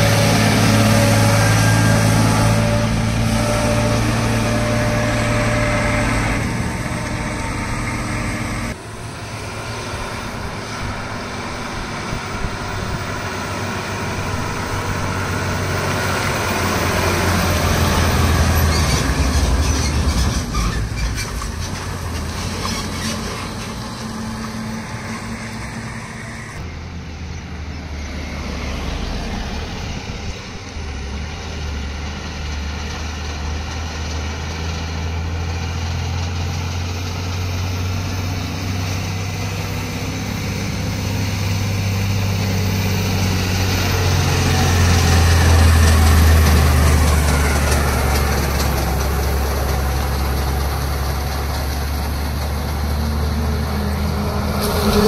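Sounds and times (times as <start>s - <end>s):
trucks passing on highway: 0.0s - 55.0s.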